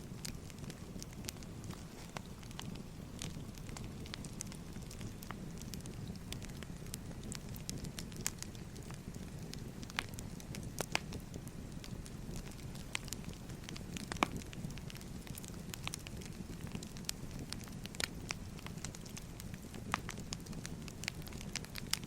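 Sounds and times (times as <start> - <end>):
fire low rumble: 0.0 - 22.0
firewood crackling and popping: 0.0 - 22.0.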